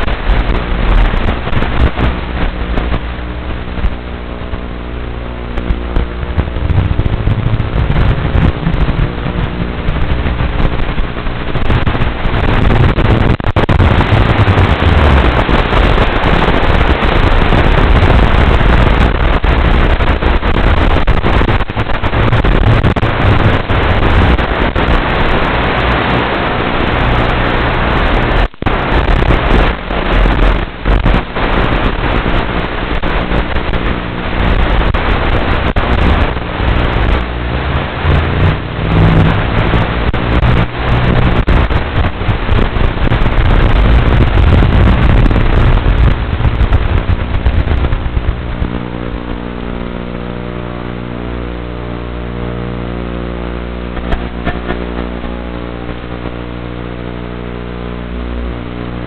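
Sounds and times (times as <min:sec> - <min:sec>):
rushing noise with low hum: 0:00.0 - 0:59.0.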